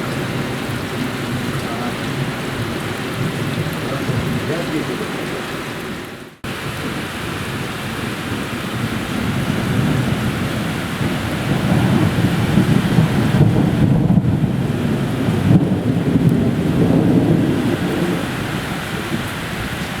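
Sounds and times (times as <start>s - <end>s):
heavy rain falling: 0.0s - 20.0s
thunder rumbling: 0.0s - 20.0s.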